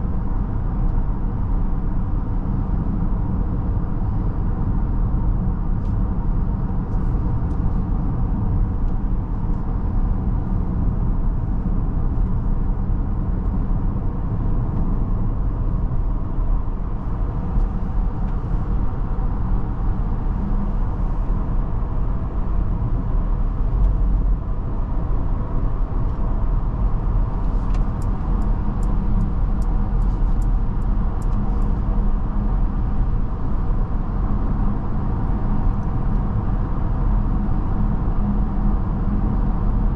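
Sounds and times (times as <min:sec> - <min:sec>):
road and tyre rumble in car cabin: 0:00.0 - 0:39.9.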